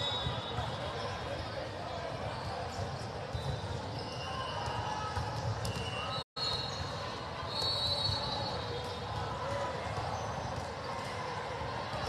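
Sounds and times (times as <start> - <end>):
many voices talking: 0.0 - 12.0.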